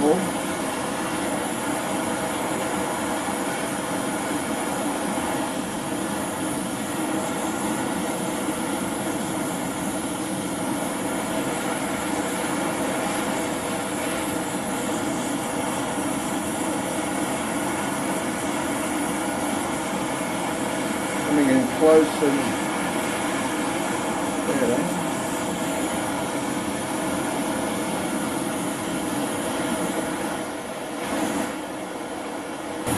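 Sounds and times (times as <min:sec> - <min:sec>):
torch flame rushing: 0:00.0 - 0:32.9.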